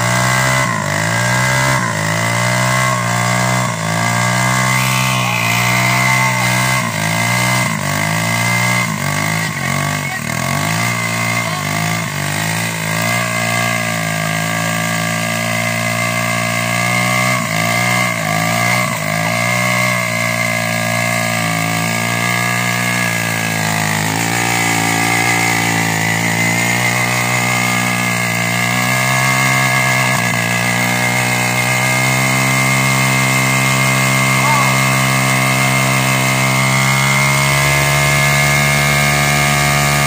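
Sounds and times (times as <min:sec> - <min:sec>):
motorbike engine revving high: 0:00.0 - 0:40.0
tyre spinning on asphalt: 0:00.0 - 0:40.0.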